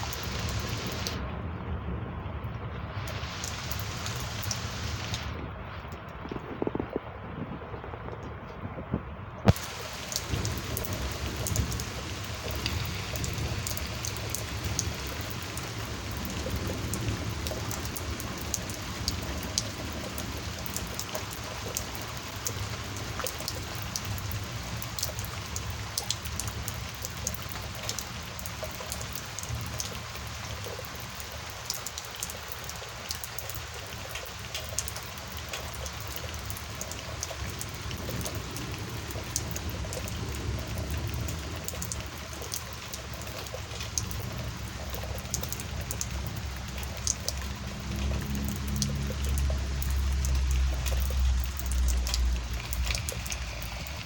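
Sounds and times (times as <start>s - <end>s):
rain drops ticking: 0.0s - 54.0s
steady rain: 0.0s - 54.0s.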